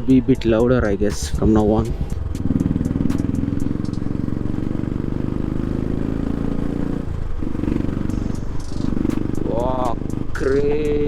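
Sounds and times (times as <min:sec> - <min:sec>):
motorcycle engine thumping: 0:01.1 - 0:10.9.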